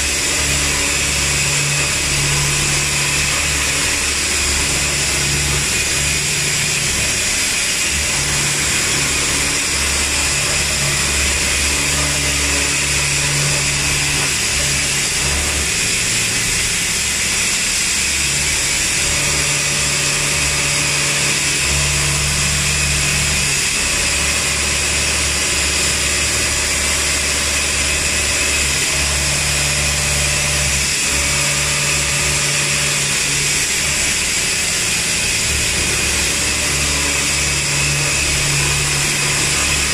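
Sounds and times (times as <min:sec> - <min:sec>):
milling machine high-pitched whine: 0:00.0 - 0:39.9.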